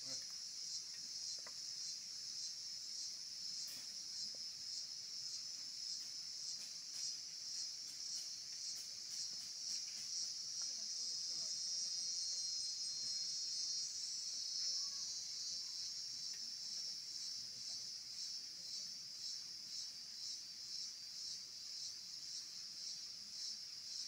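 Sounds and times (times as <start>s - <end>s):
insects buzzing shrilly: 0.0s - 24.0s.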